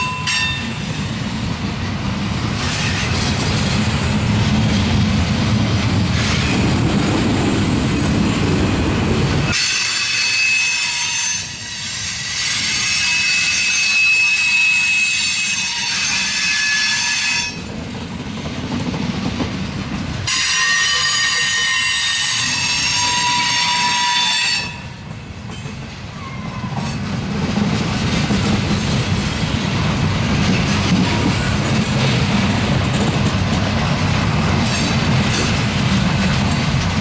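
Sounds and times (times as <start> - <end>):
low rumble of wheels on rail: 0.0 - 37.0.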